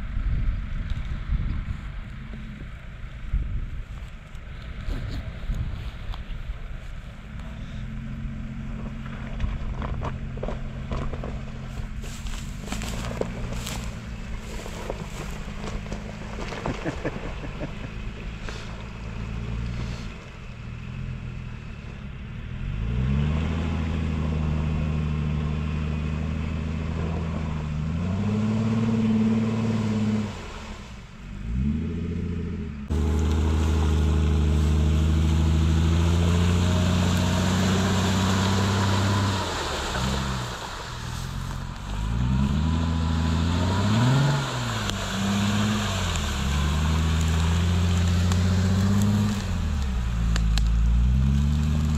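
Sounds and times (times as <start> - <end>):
car engine revving: 7.4 - 51.9.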